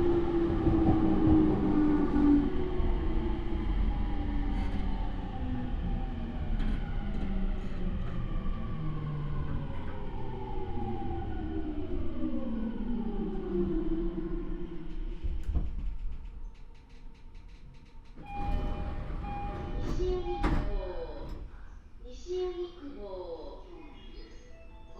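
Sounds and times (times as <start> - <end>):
wheels rumbling on rail: 0.0 - 21.4.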